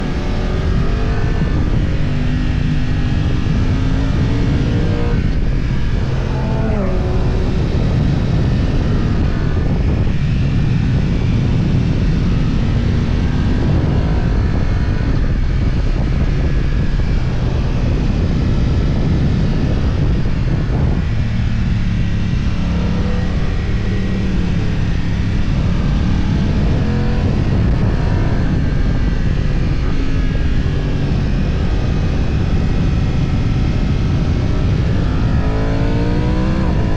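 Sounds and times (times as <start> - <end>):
motorcycle engine revving: 0.0 - 36.9
steady rushing noise: 0.0 - 36.9.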